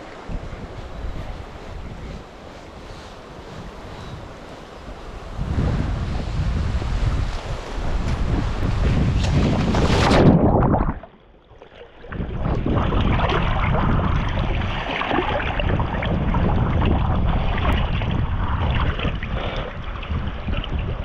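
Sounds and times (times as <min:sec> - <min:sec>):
wind buffeting microphone: 0:00.0 - 0:11.2, 0:12.0 - 0:21.0.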